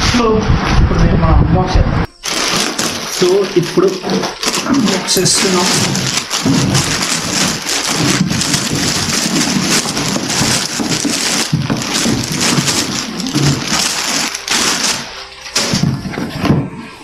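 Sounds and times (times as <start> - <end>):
packaging crackling and crinkling: 2.1 - 17.0.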